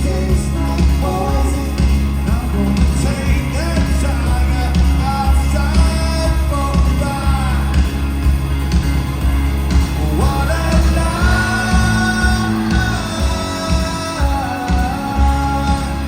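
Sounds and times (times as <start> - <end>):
heavy pulsing bass beat: 0.0 - 16.0
live rock band playing: 0.0 - 16.0
person singing: 0.0 - 16.0.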